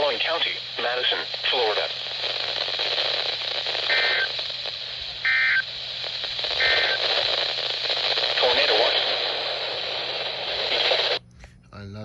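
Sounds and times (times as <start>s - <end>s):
radio hiss: 0.0s - 11.2s.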